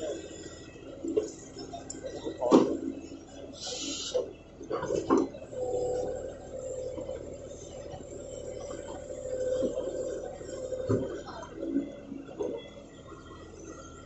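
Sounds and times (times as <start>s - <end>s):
hydraulic whine: 0.0s - 14.0s
tractor engine running: 0.0s - 14.0s.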